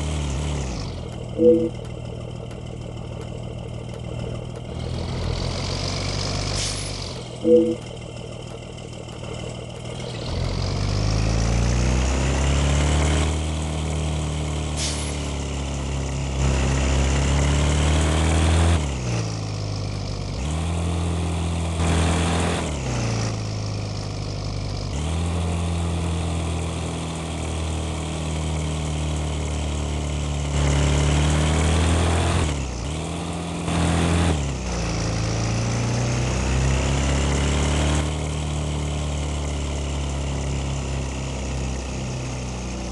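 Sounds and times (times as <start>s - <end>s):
bus engine accelerating: 0.0s - 42.9s.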